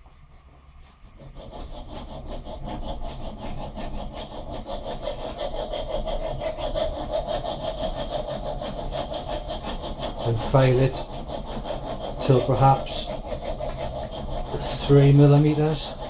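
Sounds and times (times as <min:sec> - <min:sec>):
hand file rasping on metal rod: 0:00.0 - 0:16.0.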